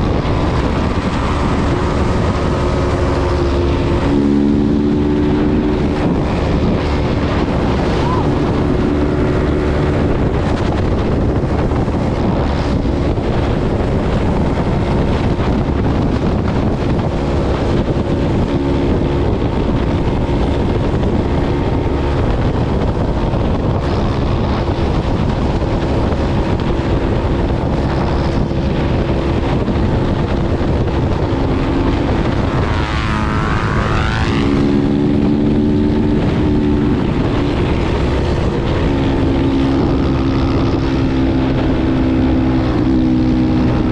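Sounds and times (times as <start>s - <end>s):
motorcycle engine at speed: 0.0s - 43.9s
whine: 0.0s - 43.9s
wind rush on microphone: 0.0s - 43.9s.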